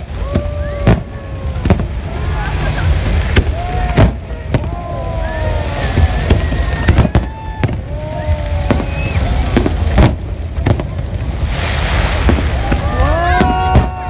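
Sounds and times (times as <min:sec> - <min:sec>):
fireworks bangs: 0:00.0 - 0:14.0
steady low rumble: 0:00.0 - 0:14.0.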